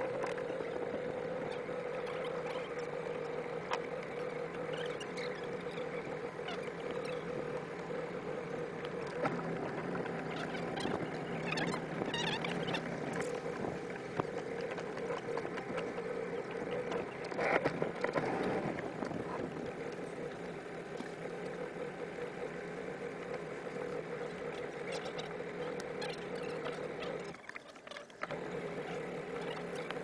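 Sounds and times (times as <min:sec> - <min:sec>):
outboard motor idling: 0:00.0 - 0:30.0
water washing along hull: 0:00.0 - 0:30.0.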